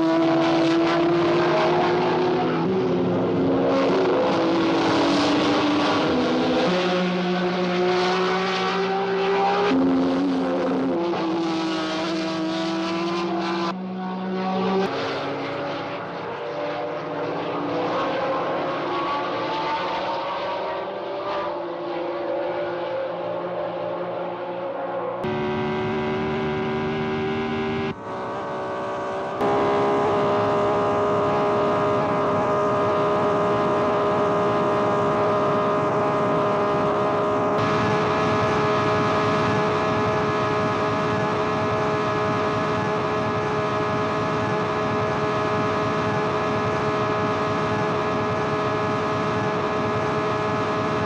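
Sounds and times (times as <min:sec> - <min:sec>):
race car engine at high revs: 0:00.0 - 0:51.0.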